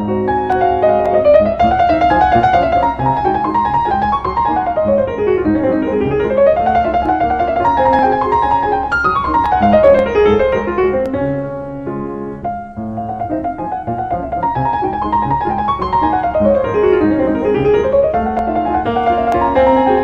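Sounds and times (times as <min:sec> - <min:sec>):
piano music with fast runs: 0:00.0 - 0:20.0.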